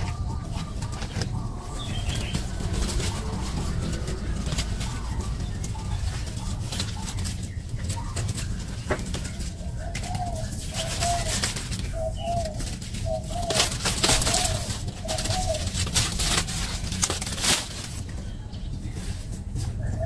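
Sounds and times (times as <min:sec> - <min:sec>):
rustles and scrapes: 0:00.0 - 0:20.0.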